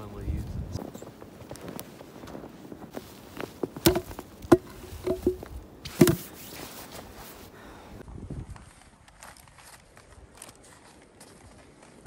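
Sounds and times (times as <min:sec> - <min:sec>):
footsteps crunching in snow: 0:00.3 - 0:12.0.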